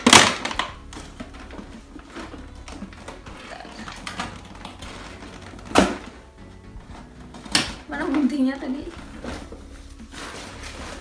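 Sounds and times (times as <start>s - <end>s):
plastic sleeve crinkling: 0.0s - 11.0s.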